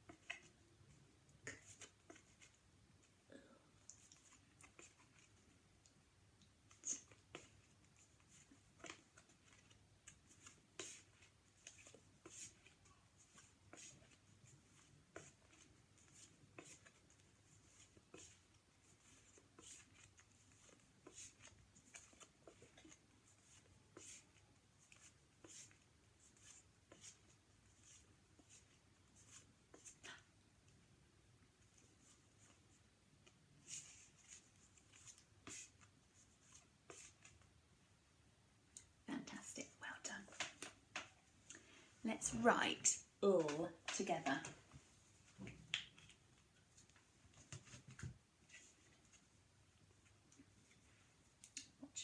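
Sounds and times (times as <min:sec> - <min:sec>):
quiet room hum: 0:00.0 - 0:52.0.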